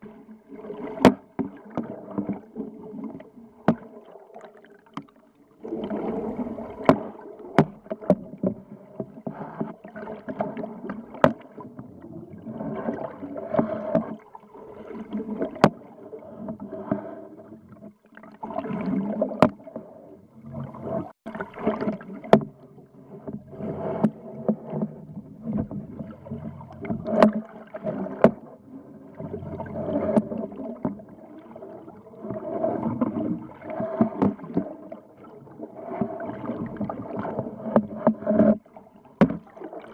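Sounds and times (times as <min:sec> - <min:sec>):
underwater water surging: 0:00.0 - 0:39.9.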